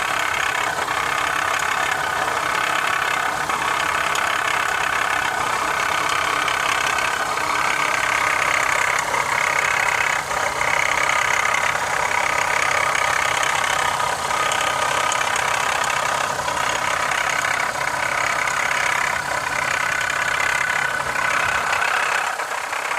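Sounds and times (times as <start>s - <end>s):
car engine running: 0.0s - 22.9s
engine rattle: 0.0s - 22.9s.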